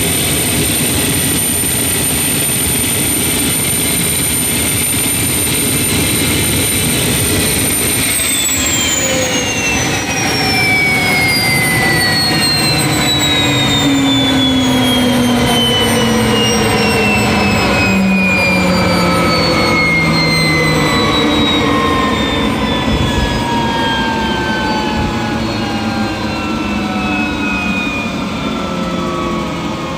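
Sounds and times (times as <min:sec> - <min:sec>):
jet engine turbine whine: 0:00.0 - 0:29.9.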